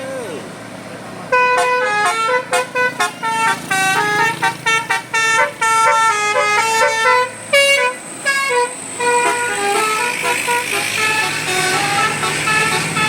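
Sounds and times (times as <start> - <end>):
musical air horn melody: 1.3 - 13.0.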